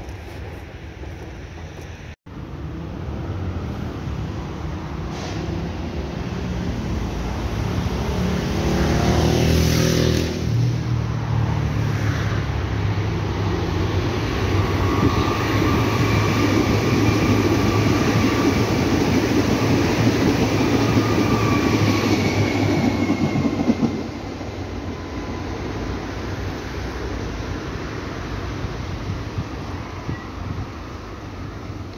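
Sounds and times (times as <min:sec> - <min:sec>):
train rumbling on rails: 0:00.0 - 0:31.9.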